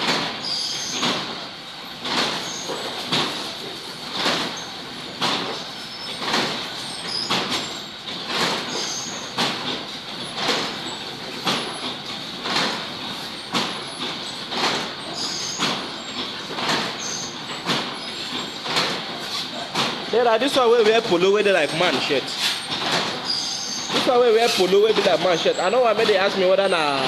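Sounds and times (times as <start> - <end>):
steady machine hum: 3.0 - 27.0.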